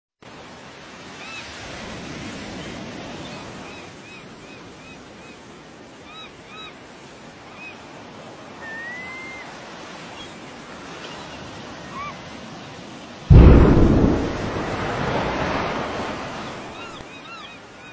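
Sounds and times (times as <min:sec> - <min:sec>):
surf washing on shore: 0:00.3 - 0:04.0, 0:06.8 - 0:17.9.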